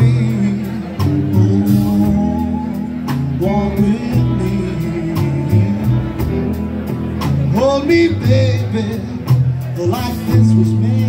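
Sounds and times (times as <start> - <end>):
drum kit beat: 0.0 - 11.0
rockabilly band playing live: 0.0 - 11.0.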